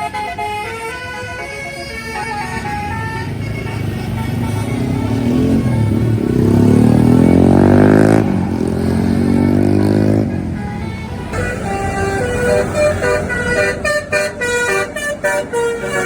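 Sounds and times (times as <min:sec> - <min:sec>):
bus engine accelerating: 0:00.0 - 0:16.0.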